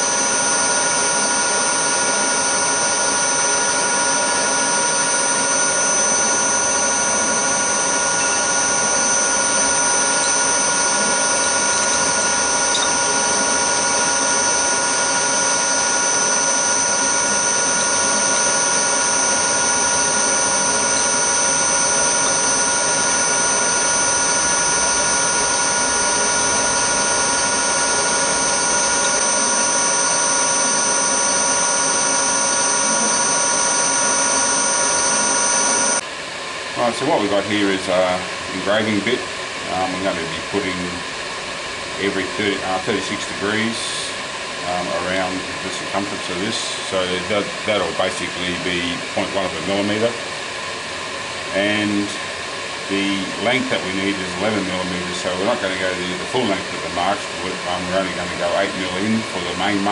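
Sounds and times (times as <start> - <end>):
milling machine spindle whine: 0.0 - 59.9.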